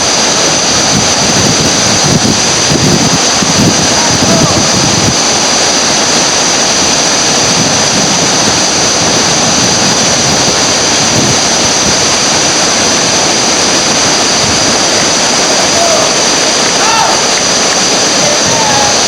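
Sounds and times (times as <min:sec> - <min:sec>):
river rapids roaring: 0:00.0 - 0:19.0.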